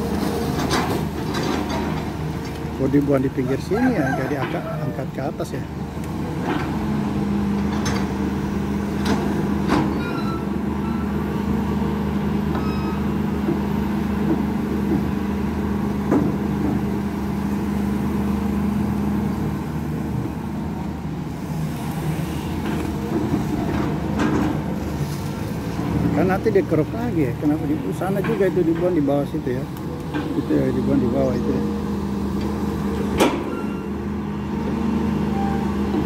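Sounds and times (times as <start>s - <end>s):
excavator diesel engine and hydraulics: 0.0s - 36.0s.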